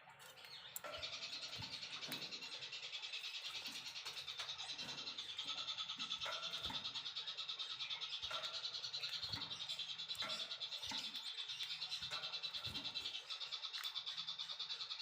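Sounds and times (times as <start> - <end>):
bird pulsing trill: 0.0 - 15.0.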